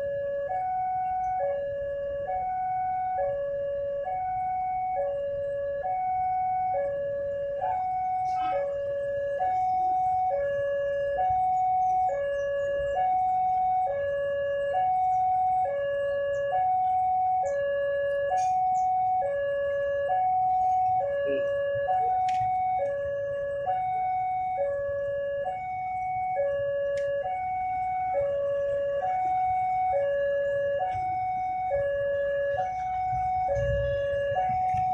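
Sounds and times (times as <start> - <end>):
two-tone crossing alarm: 0.0 - 34.9.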